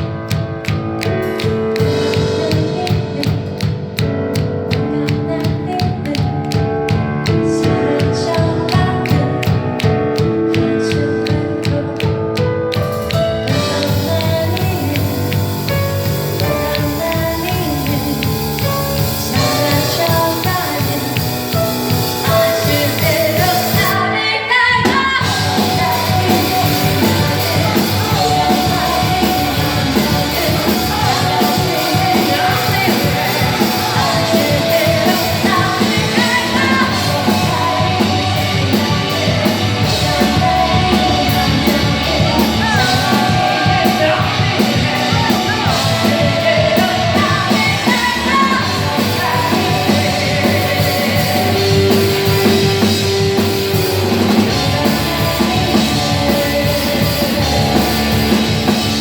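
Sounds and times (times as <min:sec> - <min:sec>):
lead vocal: 0:00.0 - 0:59.0
rock band playing: 0:00.0 - 0:59.0.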